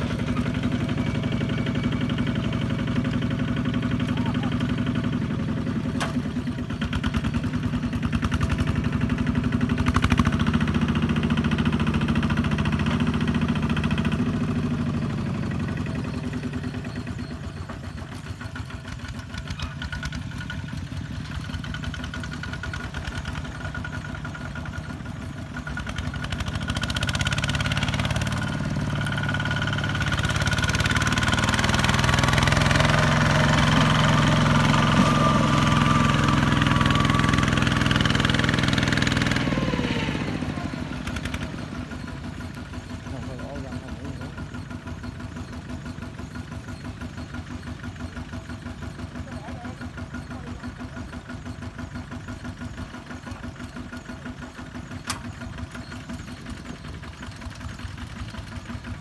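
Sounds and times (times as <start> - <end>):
diesel tractor engine chugging: 0.0 - 59.0.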